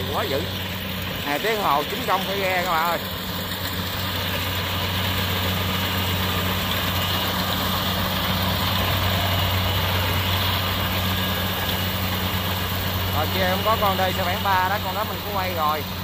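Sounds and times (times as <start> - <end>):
diesel engine humming: 0.0 - 16.0
threshing machinery clatter: 0.0 - 16.0.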